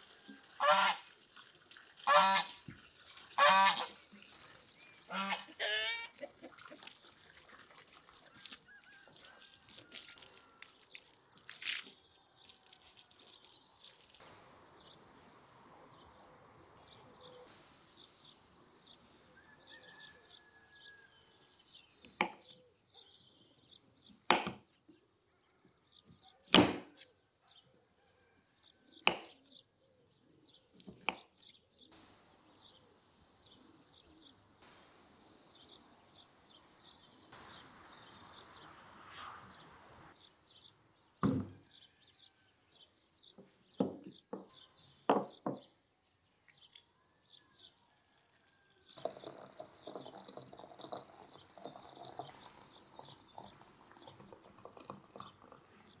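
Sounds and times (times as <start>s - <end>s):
small birds chirping: 0.0s - 21.0s, 21.6s - 27.8s, 28.6s - 56.0s.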